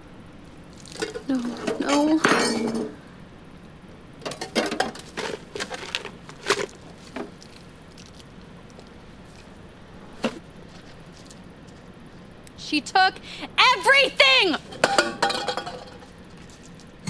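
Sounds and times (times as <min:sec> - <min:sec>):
low hiss of room tone: 0:00.0 - 0:17.0.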